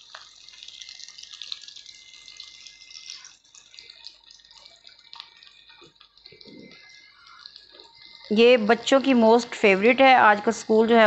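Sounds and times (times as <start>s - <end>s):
chicken deep-frying in oil: 0.0s - 11.0s
oil crackling and popping: 0.0s - 11.0s.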